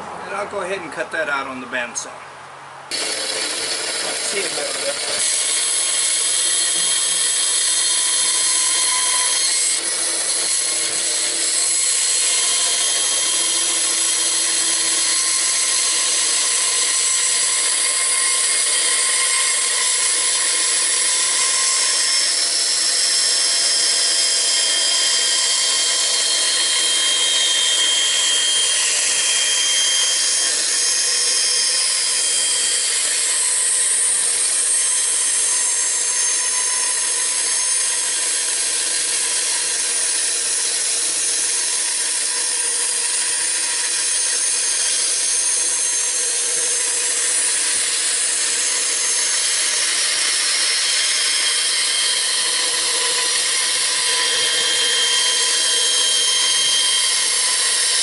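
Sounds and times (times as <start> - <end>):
bandsaw cutting wood: 2.9 - 58.0.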